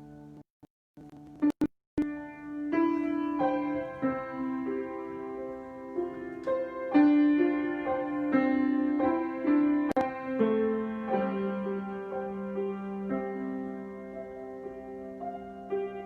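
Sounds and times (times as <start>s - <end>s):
slow solo piano: 1.1s - 16.0s.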